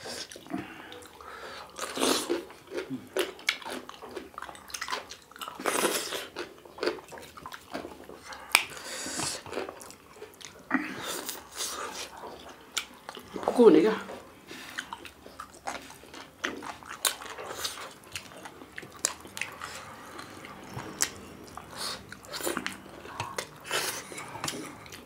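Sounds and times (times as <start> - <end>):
chewing and wet mouth sounds: 0.0 - 25.0.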